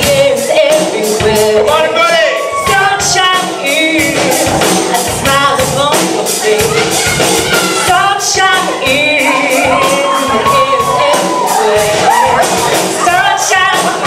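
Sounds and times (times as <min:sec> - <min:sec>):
backing music with steady beat: 0:00.0 - 0:14.0
people singing: 0:00.0 - 0:14.0.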